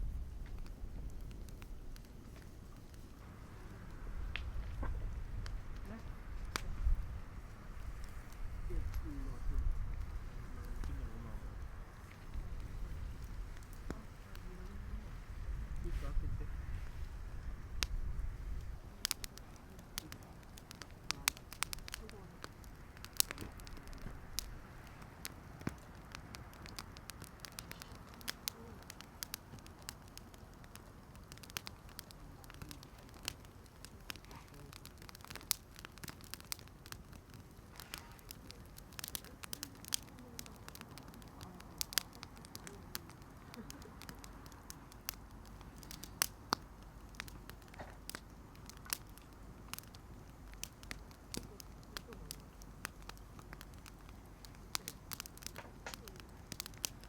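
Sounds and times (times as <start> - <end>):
campfire crackling and popping: 0.0 - 57.0
low steady hiss: 0.0 - 57.0.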